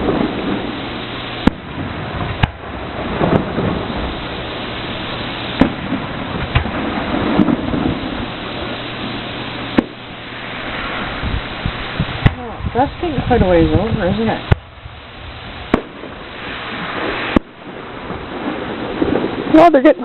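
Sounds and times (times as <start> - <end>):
fireworks bangs: 0.0 - 20.0
fireworks rumble and crackle: 0.0 - 20.0.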